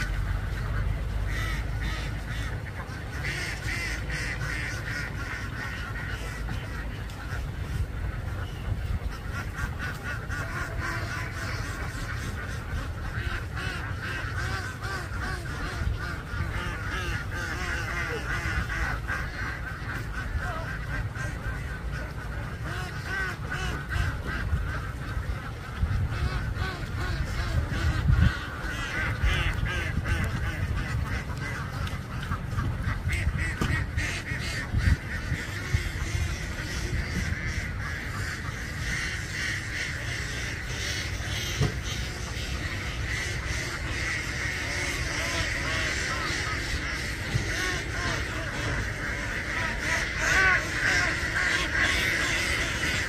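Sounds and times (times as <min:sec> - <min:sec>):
flock of ducks quacking: 0:00.0 - 0:53.0.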